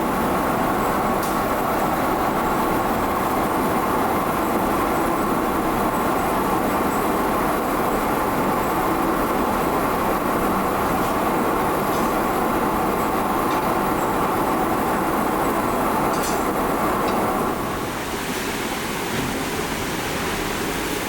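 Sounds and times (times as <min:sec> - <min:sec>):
workshop machinery running: 0:00.0 - 0:21.0.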